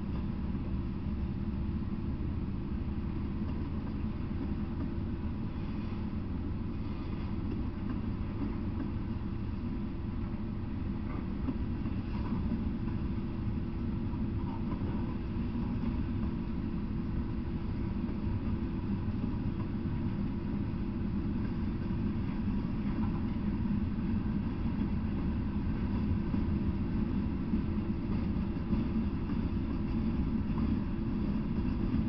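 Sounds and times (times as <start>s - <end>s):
faint constant hum: 0.0s - 32.0s
train wheels rumbling on rail: 0.0s - 32.0s.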